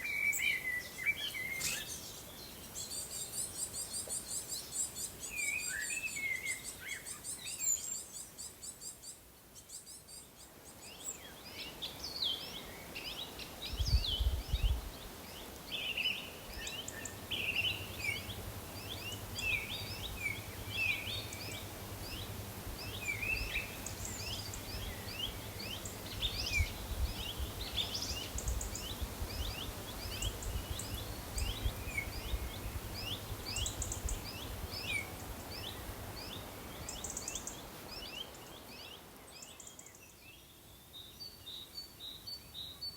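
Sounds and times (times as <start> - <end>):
small birds chirping and singing: 0.0 - 42.9.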